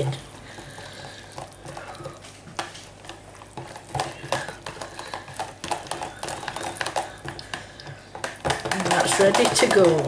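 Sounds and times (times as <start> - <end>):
utensil scraping bowl: 0.0 - 10.0.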